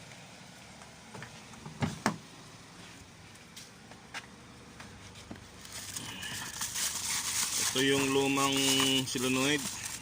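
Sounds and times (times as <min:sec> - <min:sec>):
faint car engine idling: 0:00.0 - 0:10.0.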